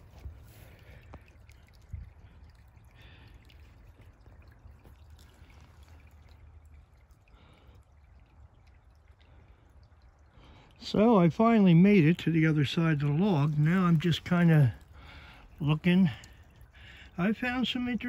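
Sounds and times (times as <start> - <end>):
creek trickling over stones: 0.0 - 18.0.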